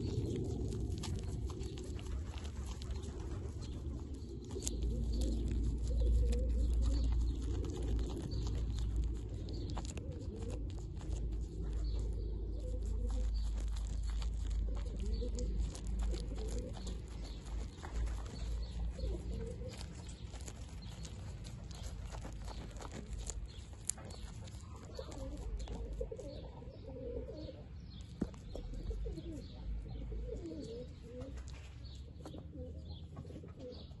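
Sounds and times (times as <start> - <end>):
doves cooing: 0.0 - 34.0
goat chewing crunchy stalks: 0.0 - 34.0.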